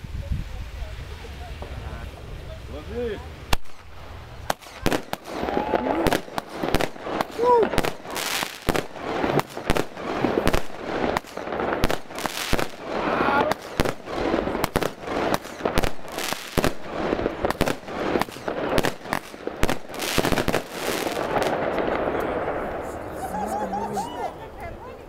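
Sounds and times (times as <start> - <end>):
fireworks hissing: 0.0 - 24.2
fireworks bangs and crackling: 0.0 - 24.9.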